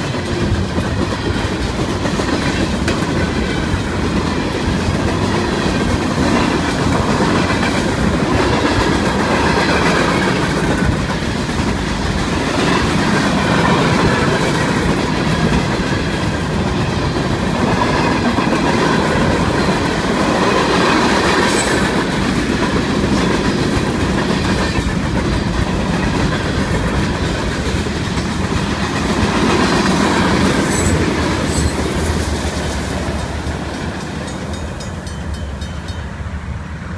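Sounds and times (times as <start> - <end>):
wheels clickety-clack over rail joints: 0.0 - 36.8
freight train rolling past: 0.0 - 36.9.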